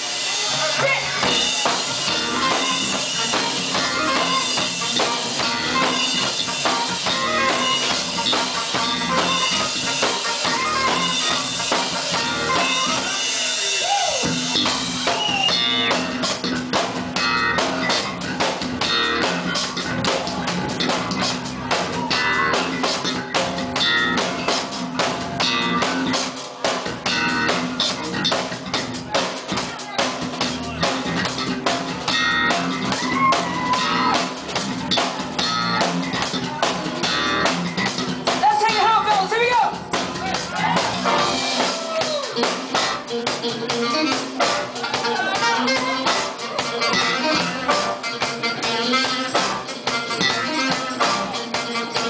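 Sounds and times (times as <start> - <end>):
live band playing: 0.0 - 52.0.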